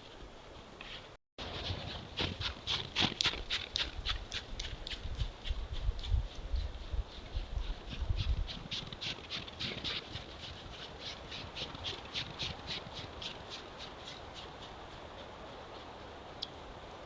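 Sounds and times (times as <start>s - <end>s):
crunching footsteps: 0.0s - 16.3s.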